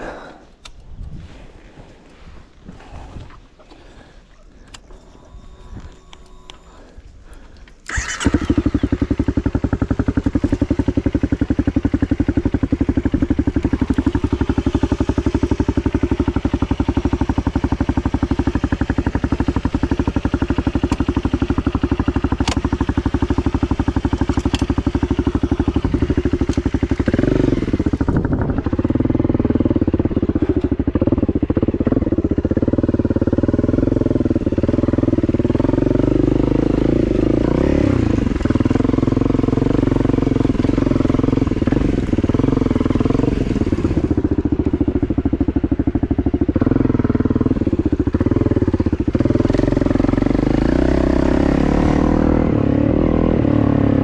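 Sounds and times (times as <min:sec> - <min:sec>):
dirt bike engine running: 0:04.8 - 0:54.0.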